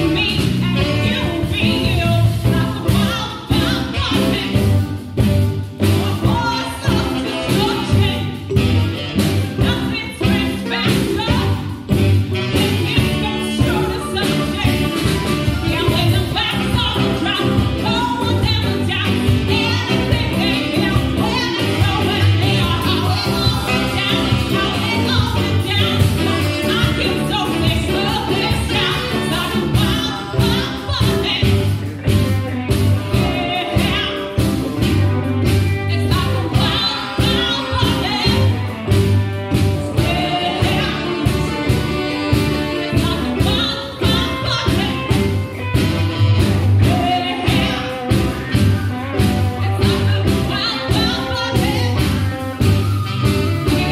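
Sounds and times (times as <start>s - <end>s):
congas: 0.0s - 53.9s
drum kit: 0.0s - 53.9s
electric bass: 0.0s - 53.9s
electric guitar: 0.0s - 53.9s
saxophone: 0.0s - 53.9s
woman singing lead: 0.0s - 53.9s.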